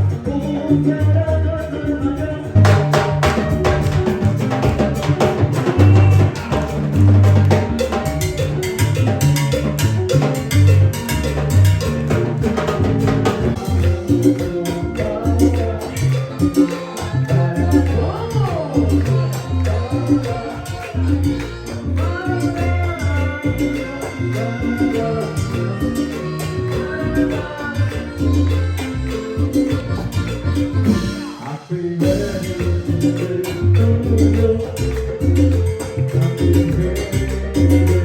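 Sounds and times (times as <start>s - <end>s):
salsa music: 0.0s - 38.0s.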